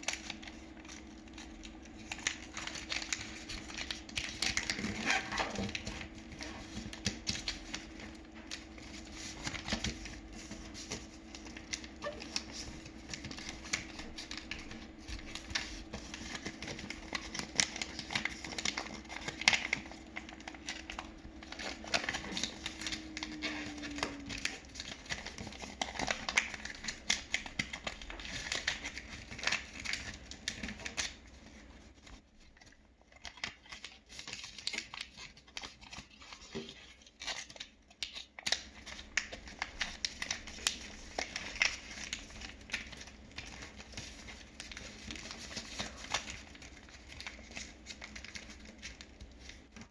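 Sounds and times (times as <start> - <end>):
faint steady hum: 0.0 - 49.9
paper rustling and crinkling: 0.0 - 49.9.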